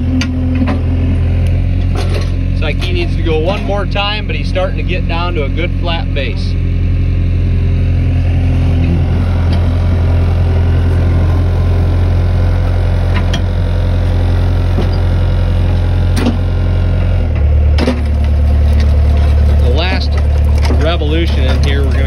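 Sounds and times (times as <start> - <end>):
tracked loader engine running: 0.0 - 22.0.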